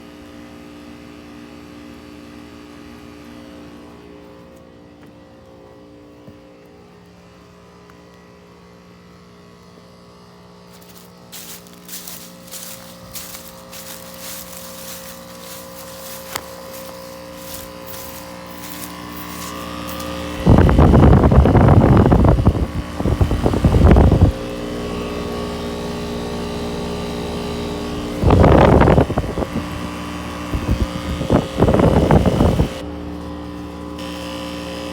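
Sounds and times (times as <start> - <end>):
heat pump humming: 0.0 - 34.9.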